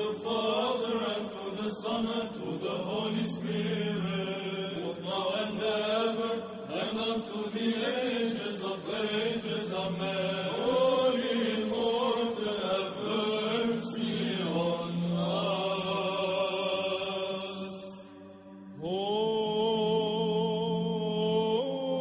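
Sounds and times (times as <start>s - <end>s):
voices chanting: 0.0s - 18.1s.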